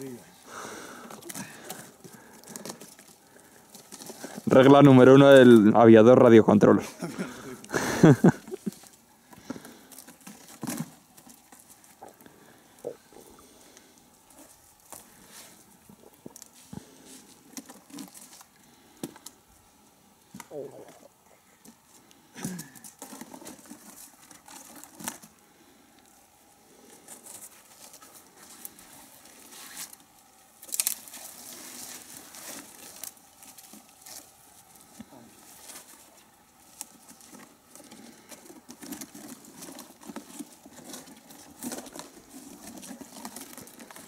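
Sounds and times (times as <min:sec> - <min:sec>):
twigs cracking and snapping: 0:00.0 - 0:05.8, 0:07.3 - 0:19.5, 0:20.2 - 0:26.2, 0:26.8 - 0:44.0
cardboard scraping against branches: 0:00.0 - 0:19.3, 0:26.6 - 0:44.0
tree branches rustling: 0:00.0 - 0:44.0.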